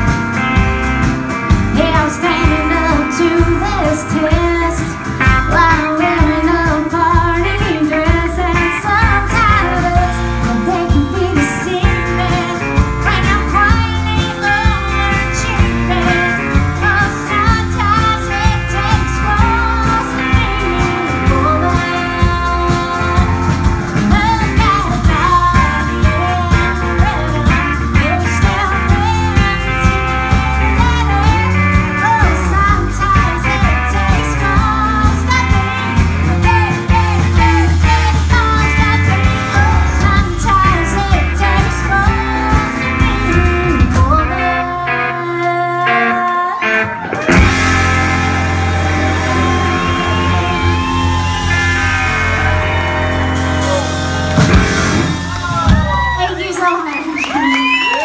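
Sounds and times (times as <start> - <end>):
country-rock band playing: 0.0 - 58.0.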